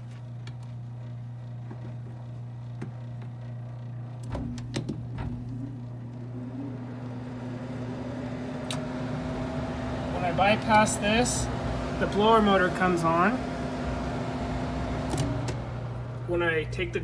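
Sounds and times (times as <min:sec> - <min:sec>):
blower motor whine: 0:00.0 - 0:17.0
gas furnace humming: 0:00.0 - 0:17.0.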